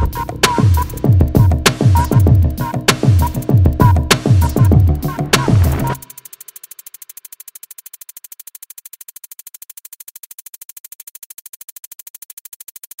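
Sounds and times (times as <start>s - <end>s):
electronic pulsing buzz: 0.0s - 12.9s.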